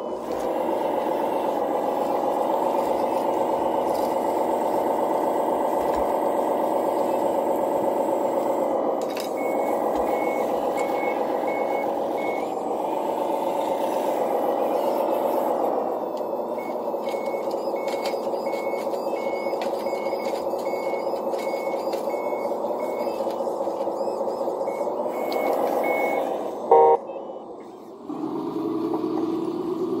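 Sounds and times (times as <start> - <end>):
reversing beeper: 0.0 - 27.9
electronic diesel engine sound: 0.0 - 30.0.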